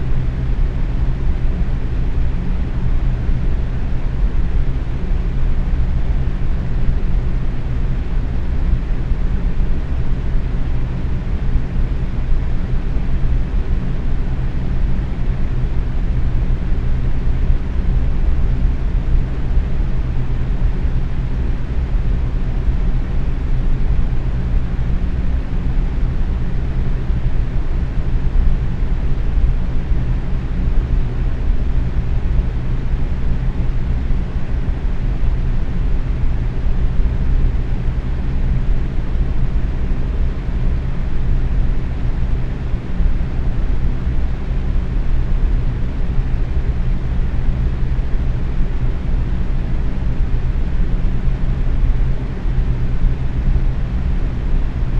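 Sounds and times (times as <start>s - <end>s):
faint motor hum: 0.0s - 54.9s.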